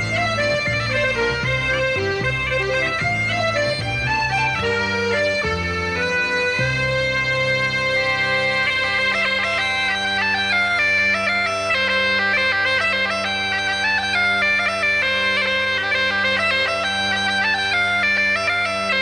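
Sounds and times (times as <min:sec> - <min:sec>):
bagpipe tune over drone: 0:00.0 - 0:19.0.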